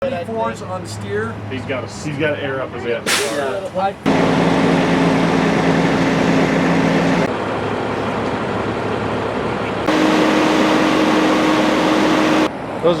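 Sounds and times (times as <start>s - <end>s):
heavy truck engines: 0.0s - 13.0s.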